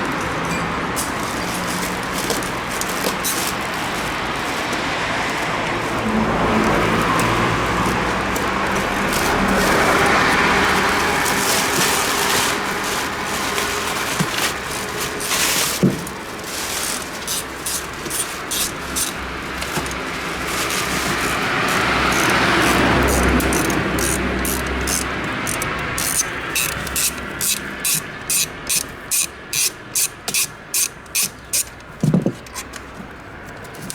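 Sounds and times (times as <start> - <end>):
road traffic passing: 0.0 - 33.9.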